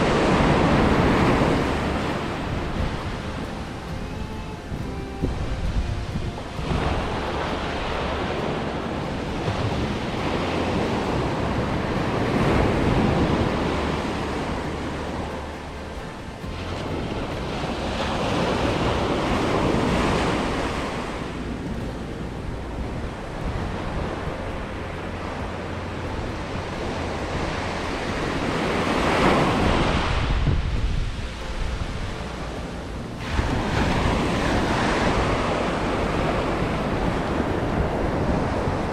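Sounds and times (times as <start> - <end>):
surf breaking on sandy beach: 0.0 - 38.9
wind rumble on microphone: 0.0 - 38.9.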